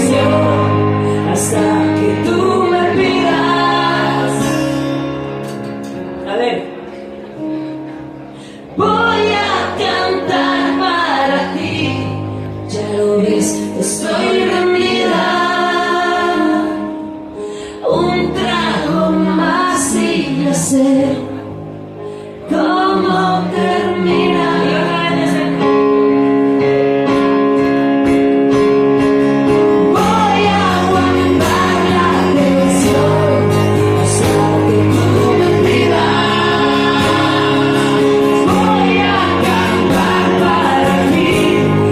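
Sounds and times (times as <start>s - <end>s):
live band music with singing: 0.0s - 41.9s.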